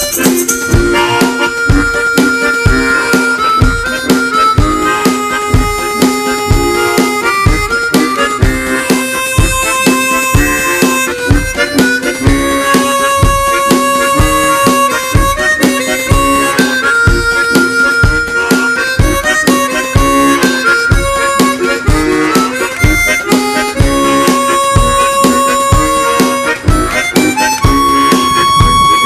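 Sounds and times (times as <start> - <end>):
harmonica ensemble music: 0.0 - 29.0
steady low beat: 0.0 - 29.0.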